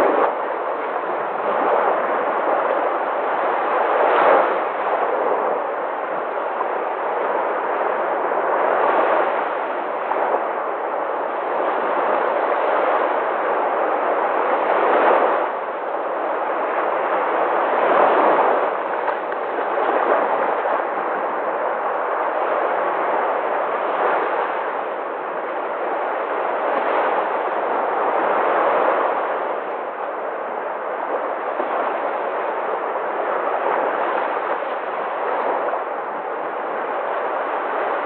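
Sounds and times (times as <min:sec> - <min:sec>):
sea waves washing: 0:00.0 - 0:38.0.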